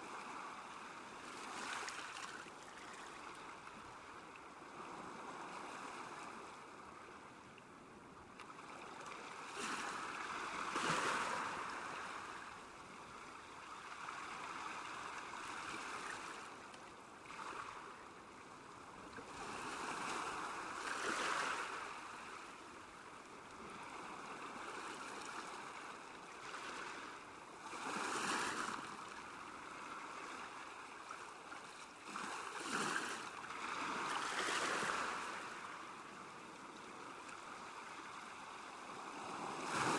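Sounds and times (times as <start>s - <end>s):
small waves lapping: 0.1s - 6.9s, 8.4s - 39.9s.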